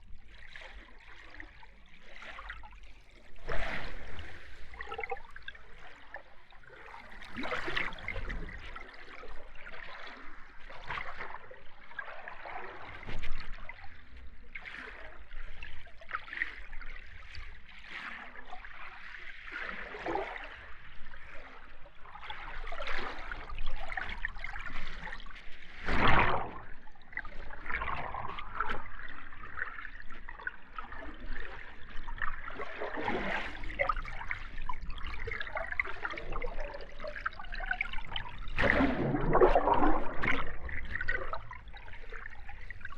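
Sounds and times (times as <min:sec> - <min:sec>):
underwater bubbling and gurgling: 0:00.0 - 0:42.9.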